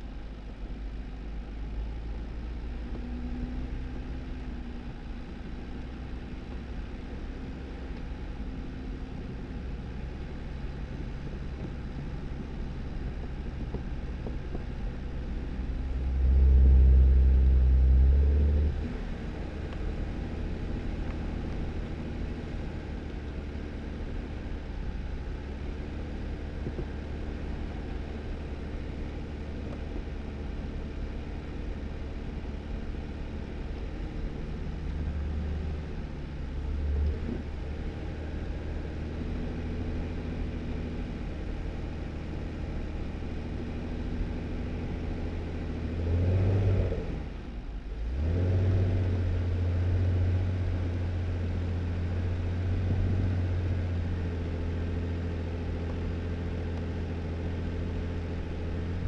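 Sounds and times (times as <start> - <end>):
car engine running while driving: 0.0 - 59.0.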